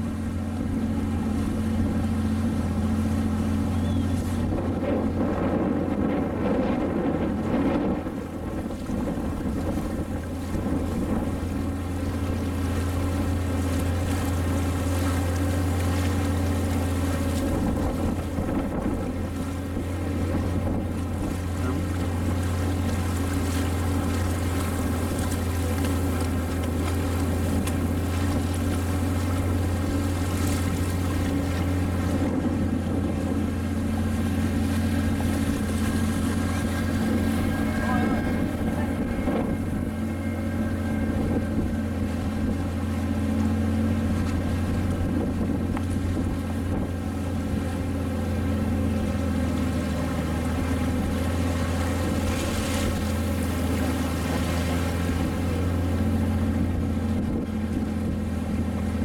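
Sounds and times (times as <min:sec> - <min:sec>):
motorboat engine droning: 0:00.0 - 0:59.0.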